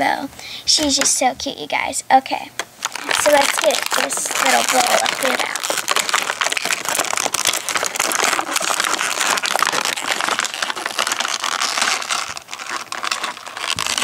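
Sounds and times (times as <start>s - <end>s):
plastic packaging crinkling: 2.6s - 14.0s.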